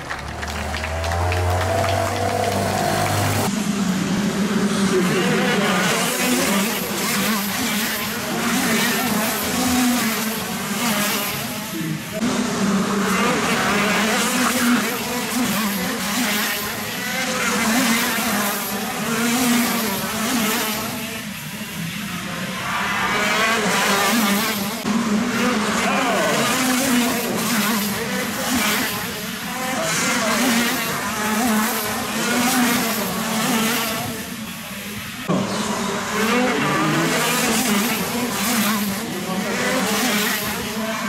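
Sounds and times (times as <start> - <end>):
kart engine passing by: 0.0 - 41.0
kart engines revving: 0.0 - 41.0.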